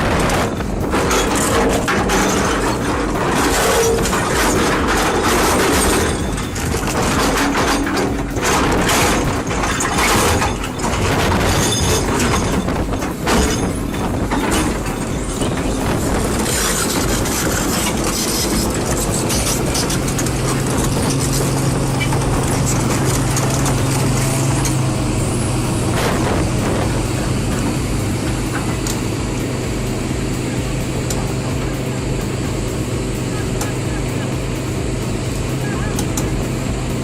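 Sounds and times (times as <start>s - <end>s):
heavy machine rumbling: 0.0s - 37.0s
metallic clanking: 0.0s - 37.0s.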